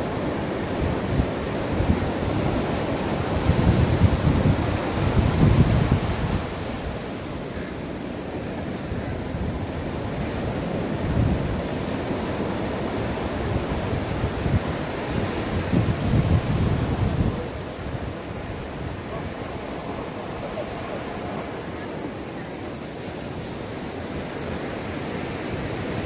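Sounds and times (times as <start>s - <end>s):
ocean waves washing onto shore: 0.0s - 26.0s
wind buffeting microphone: 0.0s - 26.0s.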